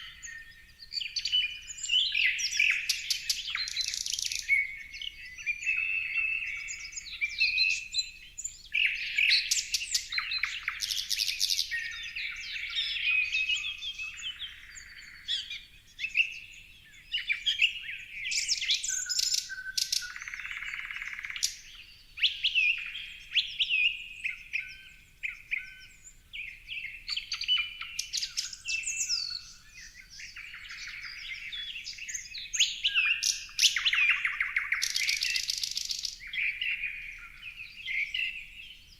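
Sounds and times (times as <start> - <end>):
songbirds singing and calling: 0.0 - 38.9.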